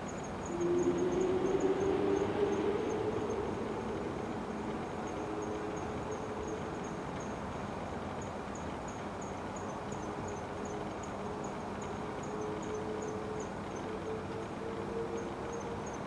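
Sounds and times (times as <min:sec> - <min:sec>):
insect chirping: 0:00.0 - 0:14.2, 0:15.0 - 0:16.0.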